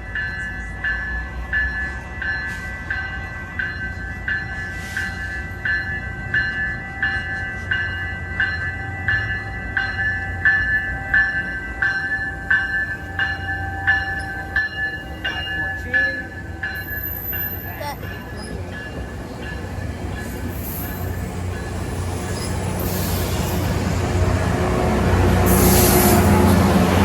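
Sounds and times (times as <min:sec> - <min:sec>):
low rumble of departing train: 0:00.0 - 0:27.0
railroad crossing bell ringing: 0:00.0 - 0:27.0.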